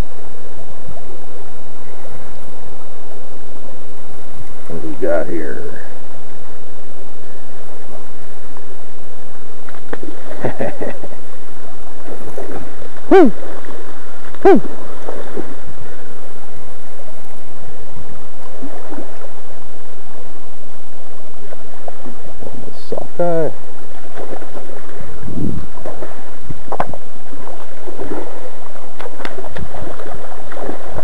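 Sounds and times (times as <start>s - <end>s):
flowing river water: 0.0s - 31.0s.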